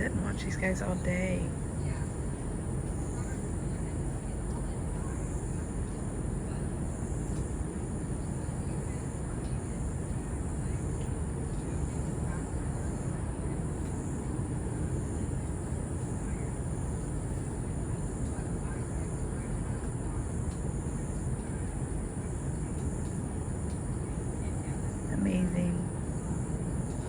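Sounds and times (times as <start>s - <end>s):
constant high hiss: 0.0s - 27.0s.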